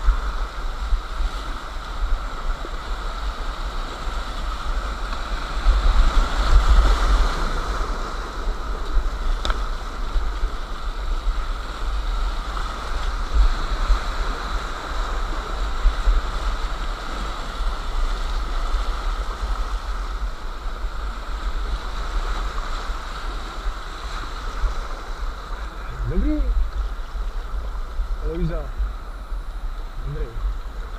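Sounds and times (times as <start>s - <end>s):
water buffeting microphone: 0.0s - 30.9s.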